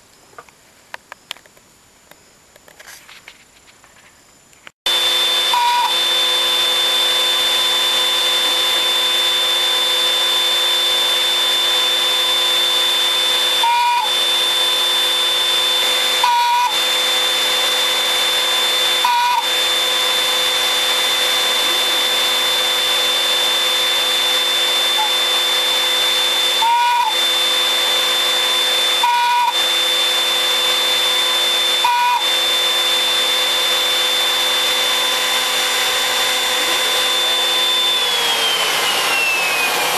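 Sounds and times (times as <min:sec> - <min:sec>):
router spindle whining: 0:04.9 - 0:39.9.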